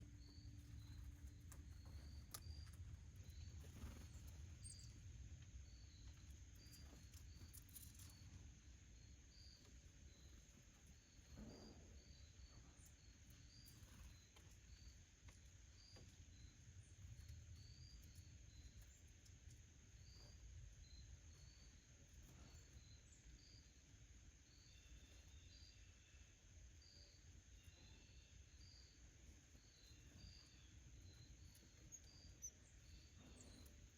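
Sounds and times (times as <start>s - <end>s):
faint high chirps: 0.0s - 33.9s
faint high whine: 0.0s - 33.9s.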